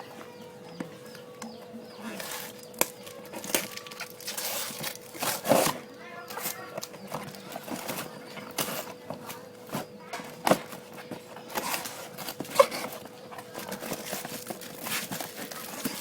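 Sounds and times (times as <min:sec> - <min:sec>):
boxes being handled: 0:00.0 - 0:16.0.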